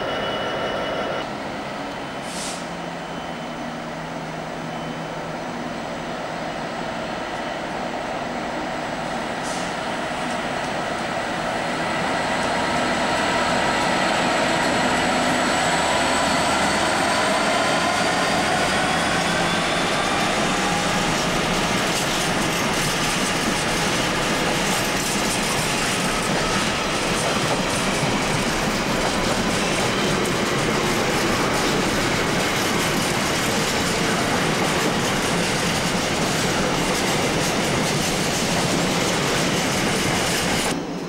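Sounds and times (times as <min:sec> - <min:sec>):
diesel locomotive engine passing: 0:00.0 - 0:41.0.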